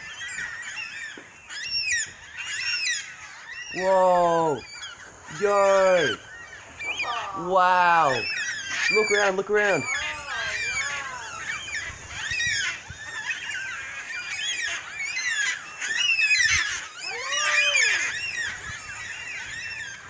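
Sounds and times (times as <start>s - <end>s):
cockatoos calling: 0.0s - 20.0s.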